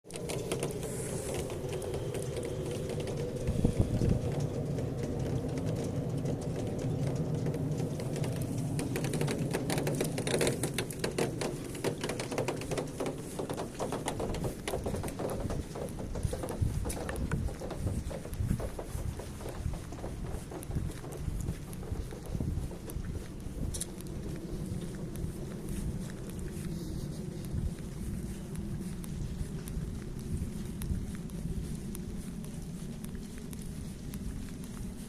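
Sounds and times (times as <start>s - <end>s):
steady low hum: 0.1s - 35.0s.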